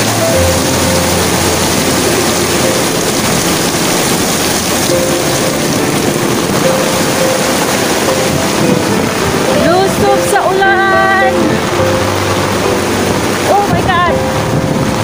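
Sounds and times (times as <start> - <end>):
heavy rain on street: 0.0 - 15.0.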